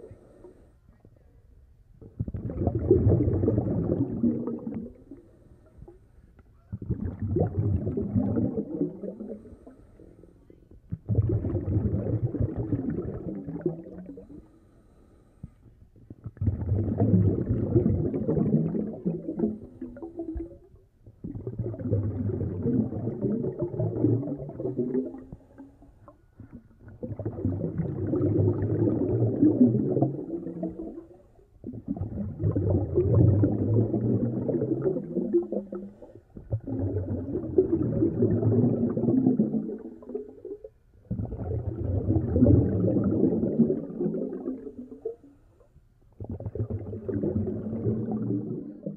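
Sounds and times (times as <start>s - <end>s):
diver exhaling bubbles: 2.0s - 5.3s, 6.7s - 10.2s, 10.9s - 14.6s, 16.0s - 45.4s, 46.2s - 48.9s.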